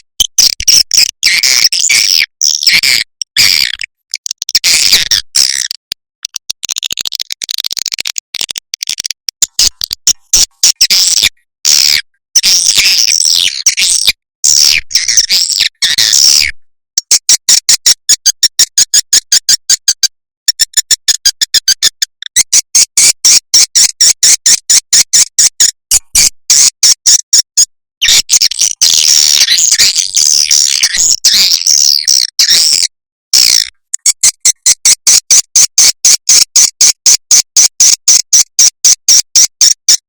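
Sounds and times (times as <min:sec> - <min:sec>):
sharp evenly spaced clicks: 0:00.1 - 0:15.4, 0:17.0 - 0:40.0.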